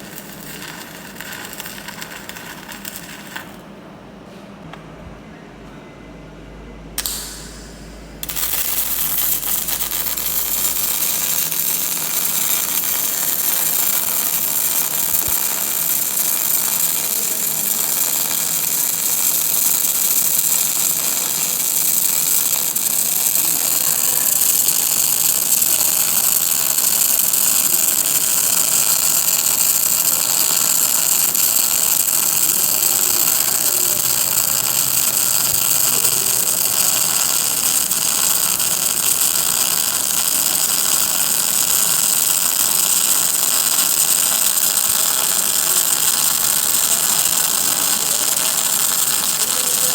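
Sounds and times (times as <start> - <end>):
welding arc hissing: 0.0 - 3.6, 7.0 - 49.9.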